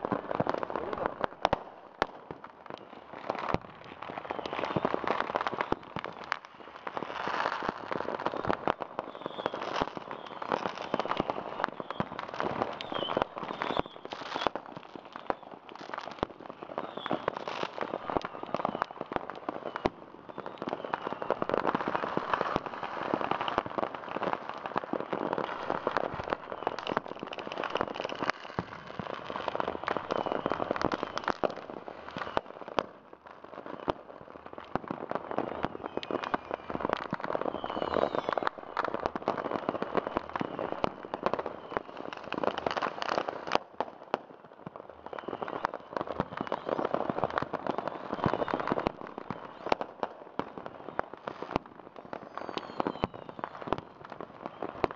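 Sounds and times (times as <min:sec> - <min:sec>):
fireworks crackling and popping: 0:00.0 - 0:54.9
faint firework whistles: 0:02.1 - 0:43.8, 0:44.4 - 0:54.9.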